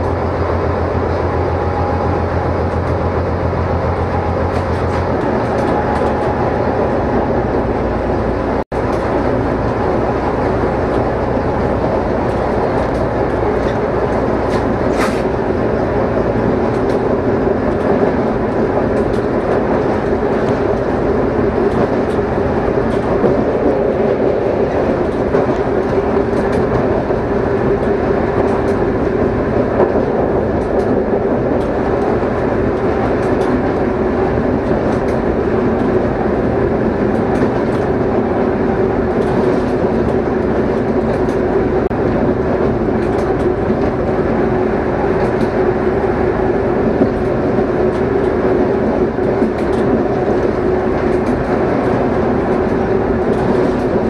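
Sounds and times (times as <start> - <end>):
locomotive engine drone: 0.0 - 54.0
train wheels running noise: 0.0 - 54.0
wheels clicking over rail joints: 0.0 - 54.0.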